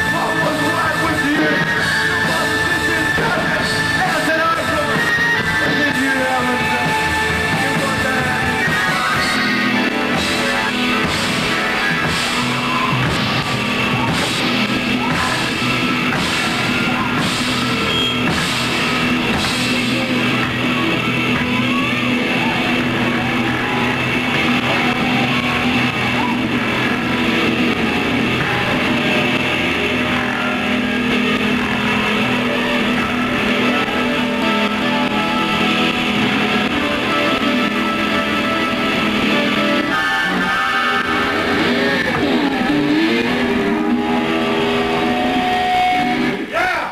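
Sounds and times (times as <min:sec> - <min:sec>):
rock band playing live: 0:00.0 - 0:46.6.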